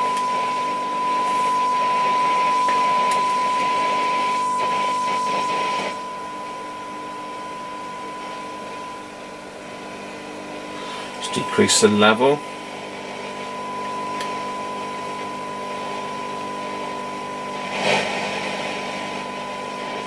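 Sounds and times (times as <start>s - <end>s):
steady test tone: 0.0s - 17.8s.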